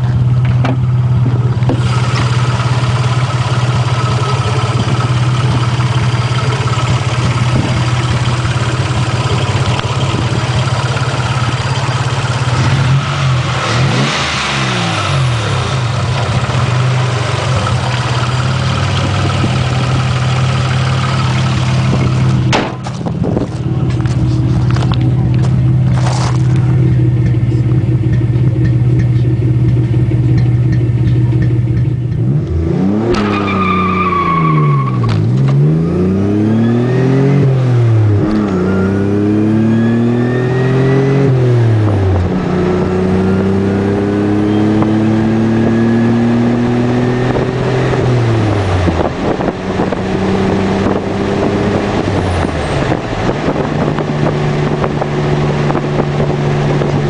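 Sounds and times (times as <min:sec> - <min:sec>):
turbo whine: 0:00.6 - 0:57.0
car engine revving through gears: 0:01.2 - 0:30.8, 0:32.1 - 0:57.0.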